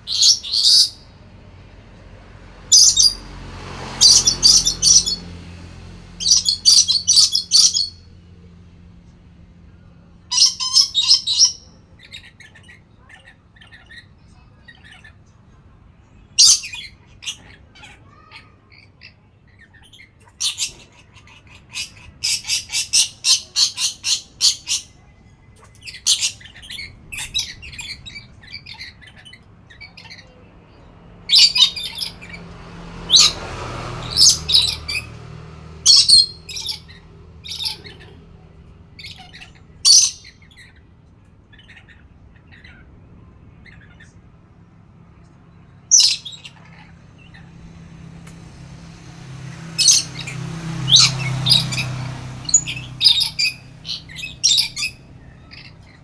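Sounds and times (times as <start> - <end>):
parrot squawking: 0.0 - 1.1, 2.7 - 5.4, 6.1 - 8.1, 10.3 - 15.3, 16.4 - 44.3, 45.9 - 48.2, 49.2 - 56.0.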